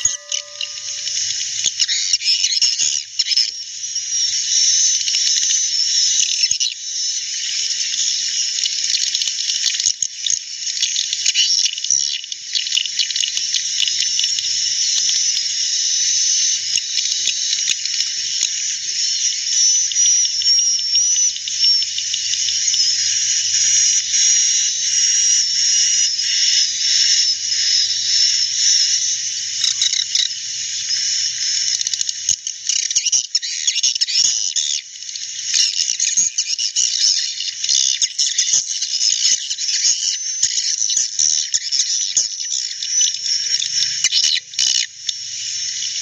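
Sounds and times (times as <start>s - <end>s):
swiftlets chirping and twittering: 0.0s - 46.0s.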